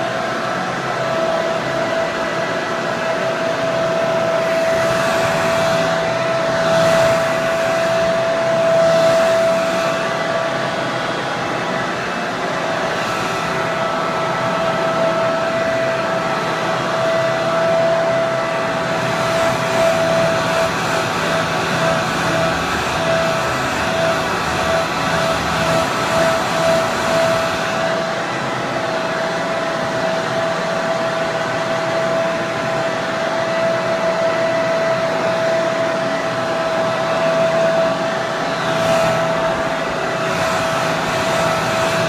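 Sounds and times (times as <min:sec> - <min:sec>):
hair dryer running: 0:00.0 - 0:42.0.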